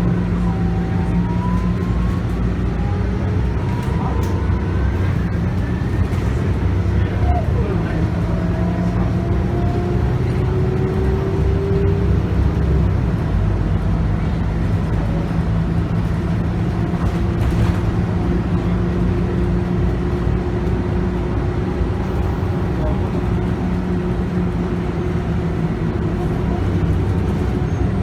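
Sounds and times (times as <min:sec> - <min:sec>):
bus engine droning: 0:00.0 - 0:28.0.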